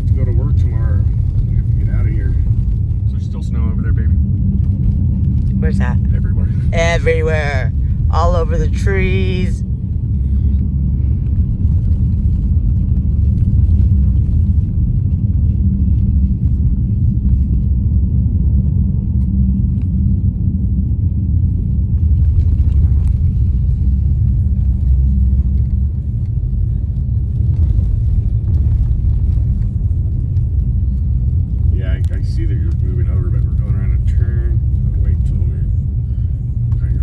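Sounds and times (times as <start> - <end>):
car cabin road rumble: 0.0 - 37.0.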